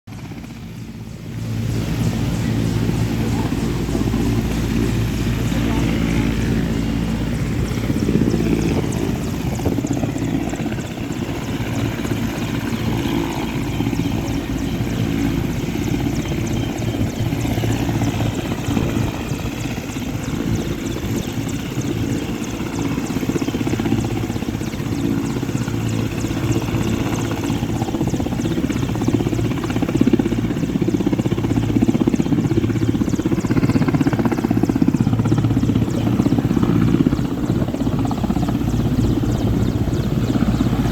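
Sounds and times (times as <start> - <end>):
helicopter rotor beating: 0.1 - 40.9.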